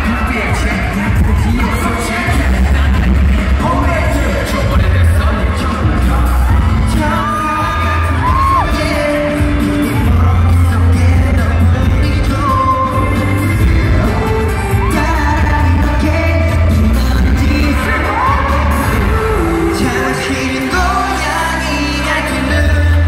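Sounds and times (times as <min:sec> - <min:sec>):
dance track over sound system: 0:00.0 - 0:23.0
male group vocals: 0:00.0 - 0:23.0.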